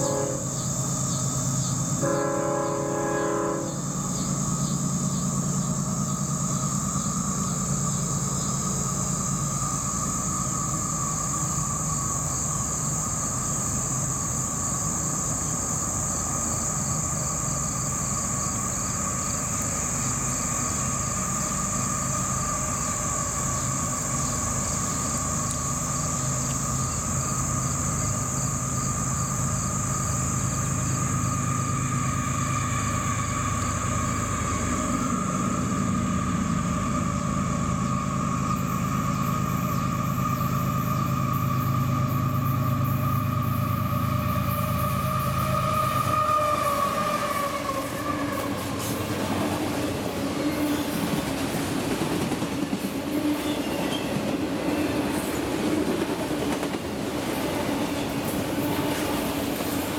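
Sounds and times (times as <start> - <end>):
insect chorus buzzing and chirping: 0.0 - 59.9.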